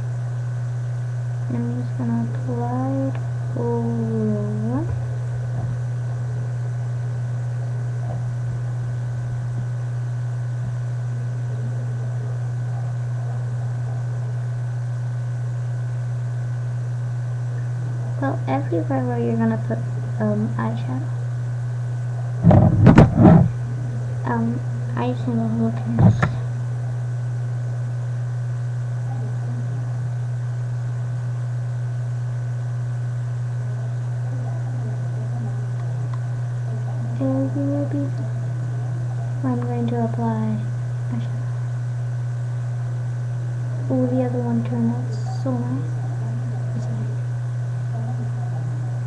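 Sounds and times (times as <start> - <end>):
low hum with hiss: 0.0 - 49.0.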